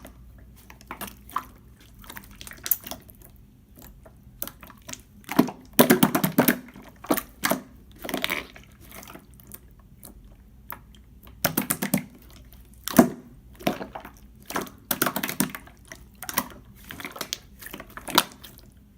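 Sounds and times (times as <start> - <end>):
slime squished by hand: 0.0 - 18.8.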